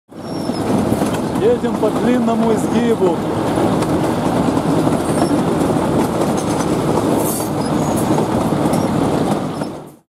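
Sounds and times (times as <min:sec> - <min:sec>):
train wheels rumbling on rails: 0:00.1 - 0:10.0.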